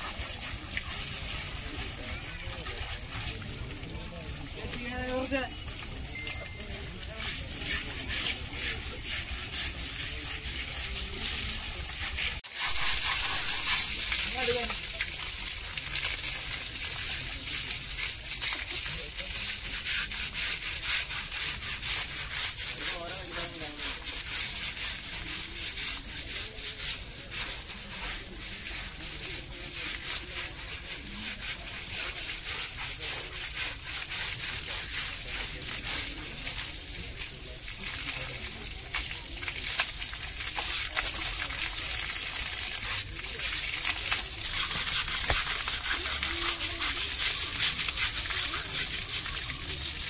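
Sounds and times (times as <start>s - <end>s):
hose water spraying and splashing: 0.0s - 50.0s
scrubbing strokes on skin: 0.0s - 50.0s.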